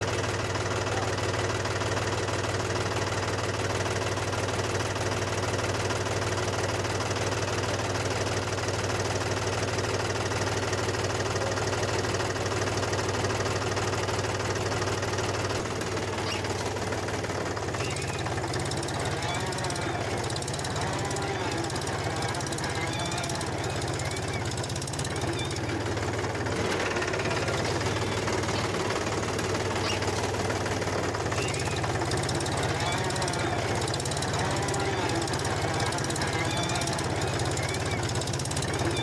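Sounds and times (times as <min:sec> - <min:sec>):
small engine knocking clatter: 0:00.0 - 0:39.0.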